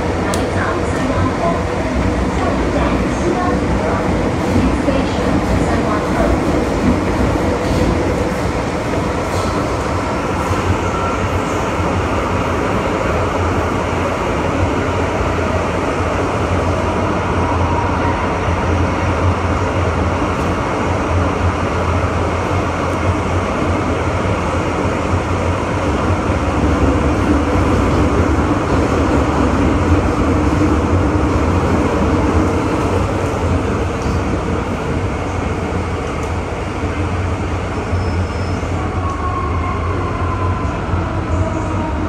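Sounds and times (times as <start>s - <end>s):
train rumbling through a tunnel: 0.0s - 42.0s.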